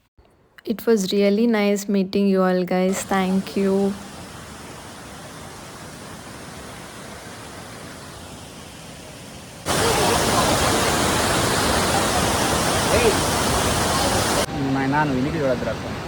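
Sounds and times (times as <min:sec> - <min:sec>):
waterfall rushing: 0:03.0 - 0:16.0.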